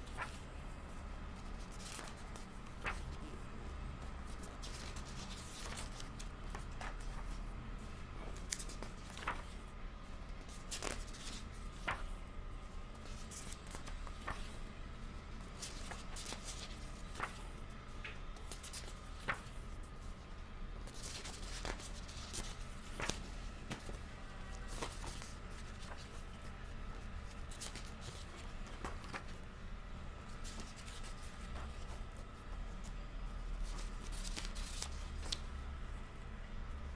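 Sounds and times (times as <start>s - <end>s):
book pages turning: 0.0s - 9.7s, 10.3s - 12.2s, 12.9s - 14.7s, 15.4s - 29.4s, 30.1s - 33.0s, 33.6s - 35.5s.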